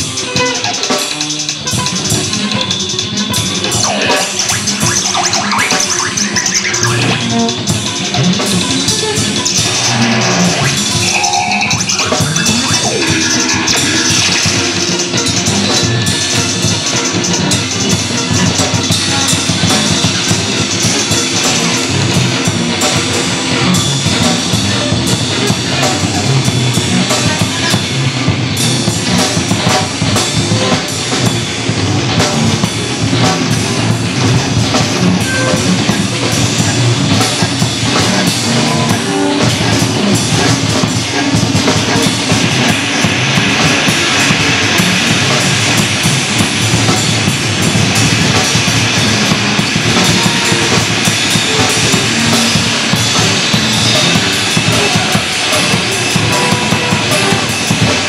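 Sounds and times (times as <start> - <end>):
drum kit with cymbals: 0.0 - 58.0
electric guitar: 0.0 - 58.0.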